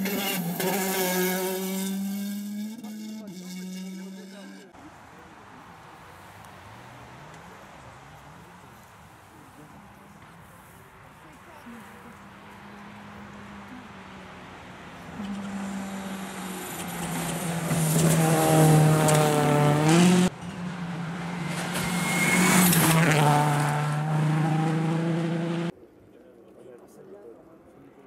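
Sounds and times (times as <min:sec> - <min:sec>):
rally car engines passing: 0:00.0 - 0:10.5, 0:11.7 - 0:25.8.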